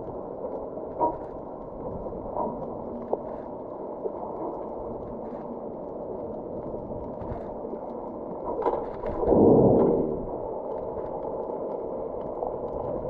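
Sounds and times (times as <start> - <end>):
faint clicks: 0.0 - 13.0.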